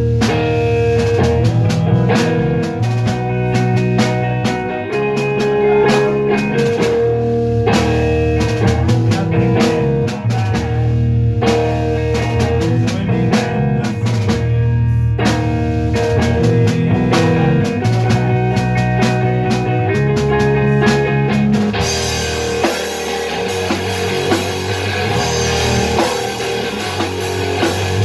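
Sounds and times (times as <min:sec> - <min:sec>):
drum kit beat: 0:00.0 - 0:28.0
rock guitar: 0:00.0 - 0:28.0.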